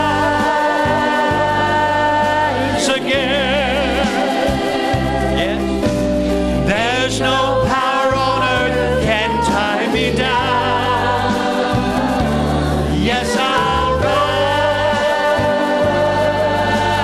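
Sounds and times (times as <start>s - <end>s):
recorded accompaniment with bass: 0.0s - 17.0s
vocal group singing gospel: 0.0s - 17.0s.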